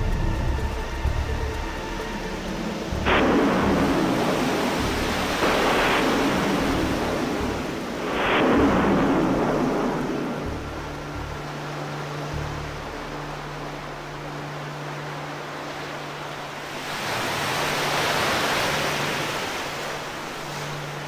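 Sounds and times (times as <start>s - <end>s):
steady low rumble: 0.0s - 17.0s
churning water wash: 0.0s - 21.0s
crashes of rushing water: 0.0s - 21.0s.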